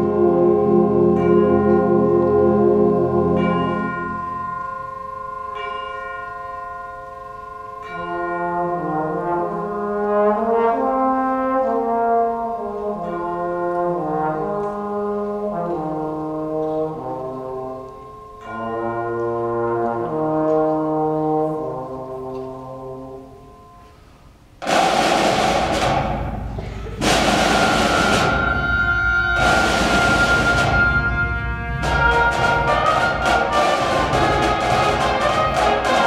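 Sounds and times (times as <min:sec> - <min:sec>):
brass chords: 0:00.0 - 0:36.0
wind band and percussion: 0:00.0 - 0:36.0.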